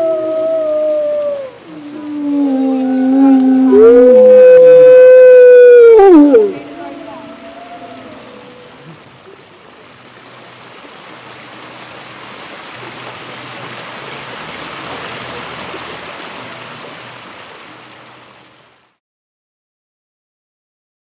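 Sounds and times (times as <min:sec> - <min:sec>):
rushing hissing noise: 0:00.0 - 0:18.8.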